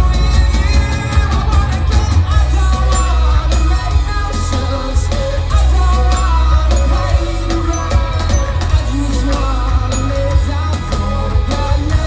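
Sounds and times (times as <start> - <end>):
man singing: 0.0 - 12.0
rock band playing: 0.0 - 12.0.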